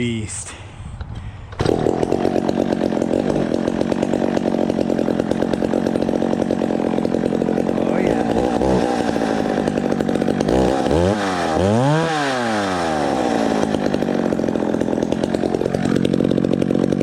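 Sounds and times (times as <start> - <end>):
chainsaw revving: 1.6 - 17.0.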